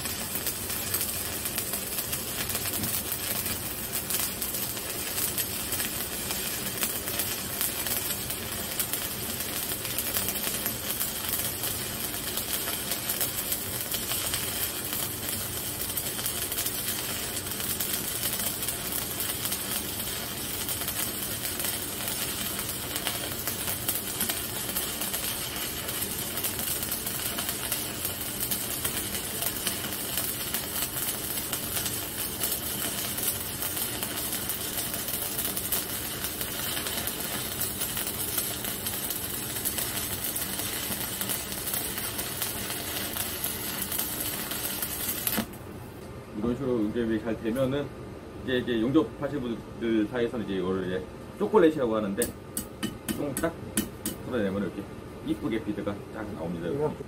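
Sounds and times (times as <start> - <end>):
arc welding crackle: 0.0 - 47.9, 50.2 - 56.9
spatter pops: 0.1 - 45.6, 52.2 - 54.2.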